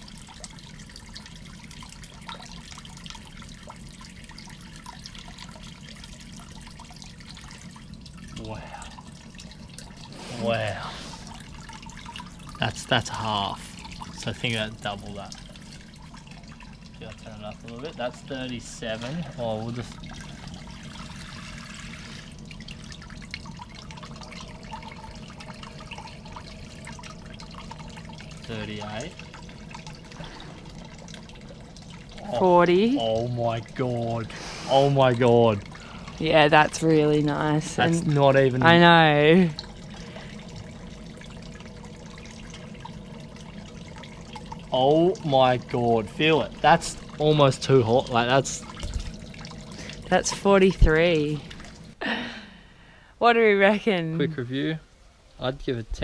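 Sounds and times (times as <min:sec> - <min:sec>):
water splashes and drips: 0:00.0 - 0:52.2
shower water running: 0:00.0 - 0:56.0
steady low hum: 0:00.0 - 0:56.0.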